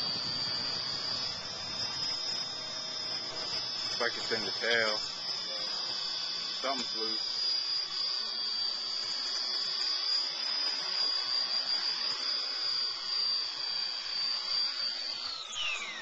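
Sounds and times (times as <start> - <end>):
rc helicopter whine: 0.0 - 16.0.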